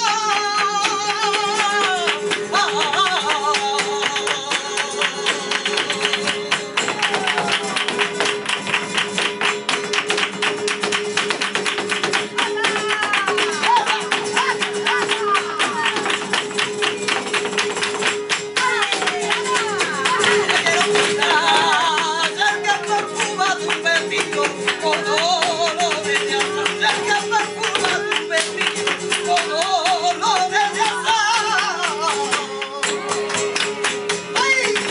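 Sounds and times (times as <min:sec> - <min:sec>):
flamenco guitar playing: 0:00.0 - 0:34.9.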